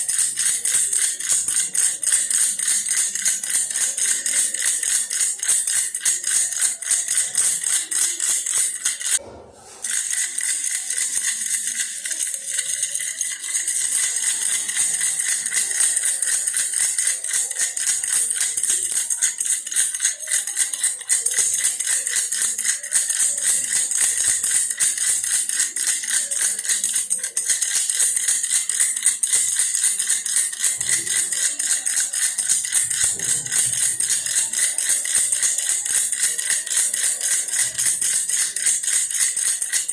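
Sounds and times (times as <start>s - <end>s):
toy rattle shaken fast: 0.0s - 39.9s.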